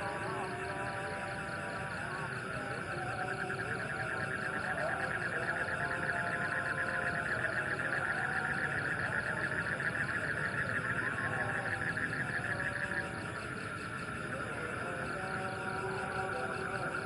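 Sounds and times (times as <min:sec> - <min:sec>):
frogs trilling in chorus: 0:00.0 - 0:17.0.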